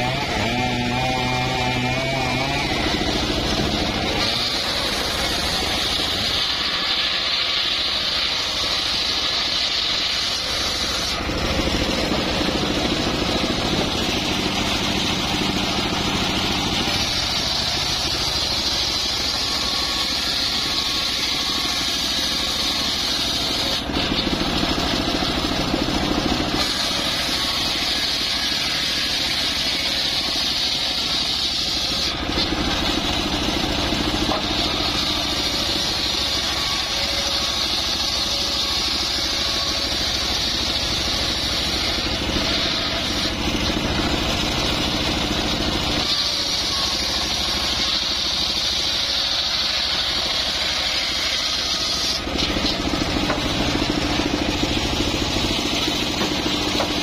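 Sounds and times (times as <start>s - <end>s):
table saw ripping logs: 0.0s - 57.0s.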